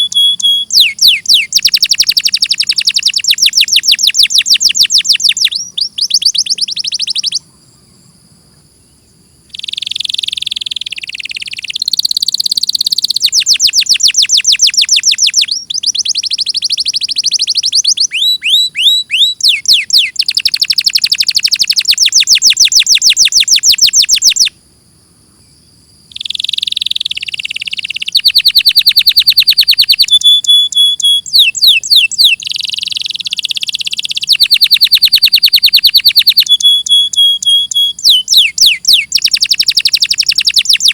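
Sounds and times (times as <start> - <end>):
canary singing trills: 0.0 - 7.6, 9.3 - 24.6, 26.1 - 40.9.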